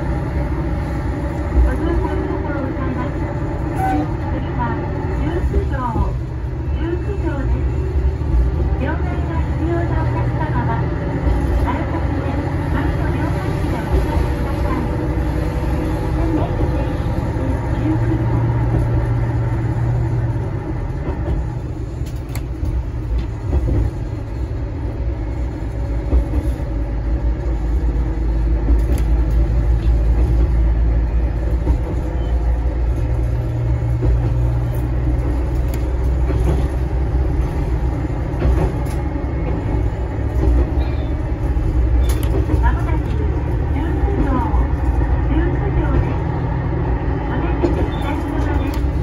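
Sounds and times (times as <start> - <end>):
diesel engine drone: 0.0 - 49.0
wheels running on track: 0.0 - 49.0.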